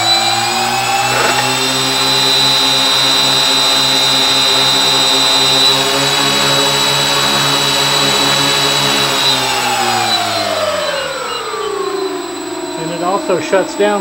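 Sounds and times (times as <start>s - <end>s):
electric motors humming with whine: 0.0s - 14.0s.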